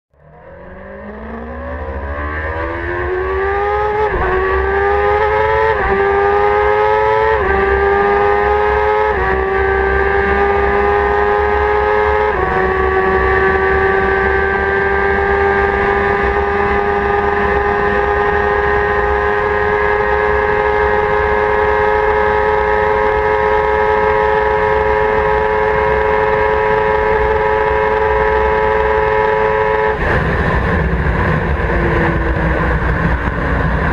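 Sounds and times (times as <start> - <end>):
motorcycle engine accelerating: 0.2 - 33.9.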